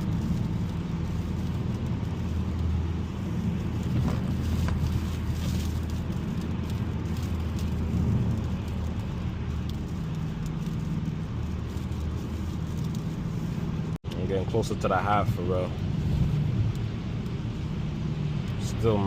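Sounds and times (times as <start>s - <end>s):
low engine hum: 0.0s - 19.0s
tyre and road rumble: 0.0s - 19.0s.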